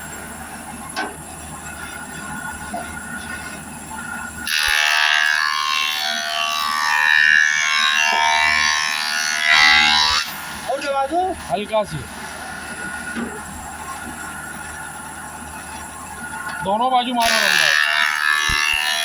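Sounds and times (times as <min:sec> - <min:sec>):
planer cutting wood whine: 0:00.0 - 0:19.0
planing machine running: 0:00.0 - 0:19.0.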